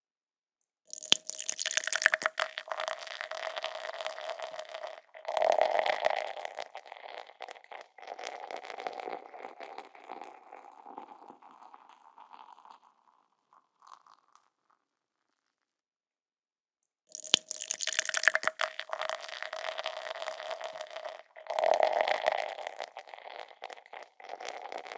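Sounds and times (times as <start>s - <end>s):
beer pouring into glass: 0.9s - 14.4s, 17.1s - 24.9s
foam fizzing and crackling: 1.0s - 14.4s, 17.2s - 24.9s.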